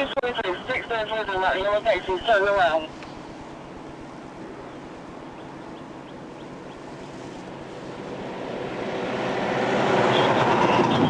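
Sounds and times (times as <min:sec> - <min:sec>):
highway road noise: 0:00.0 - 0:11.0.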